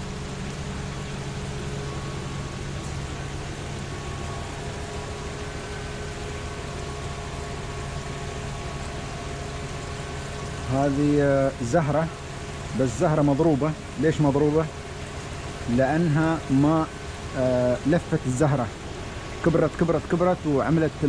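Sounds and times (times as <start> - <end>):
faint constant tones: 0.0 - 21.0
machine hum with hiss: 0.0 - 21.0.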